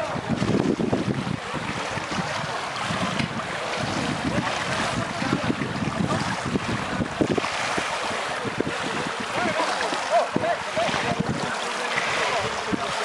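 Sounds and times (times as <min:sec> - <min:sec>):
kayak paddles in water: 0:00.0 - 0:13.0
wind on microphone: 0:00.0 - 0:13.0.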